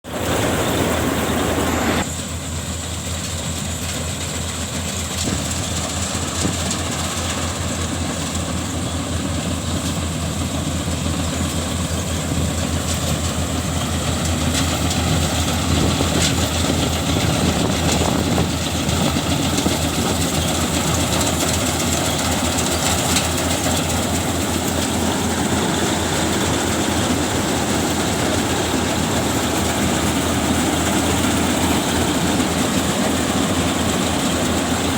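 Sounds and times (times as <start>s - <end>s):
harvesting machine engine hum: 0.0s - 34.9s.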